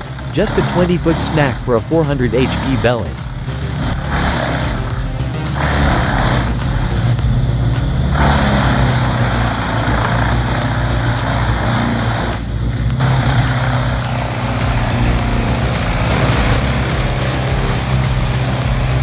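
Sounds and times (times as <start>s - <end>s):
diesel engine running under load: 0.0s - 19.0s.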